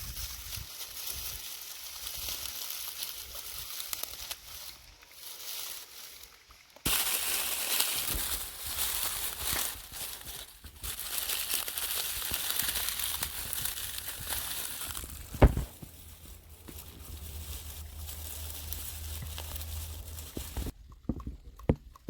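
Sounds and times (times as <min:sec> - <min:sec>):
dense crackling crinkling: 0:00.0 - 0:21.8.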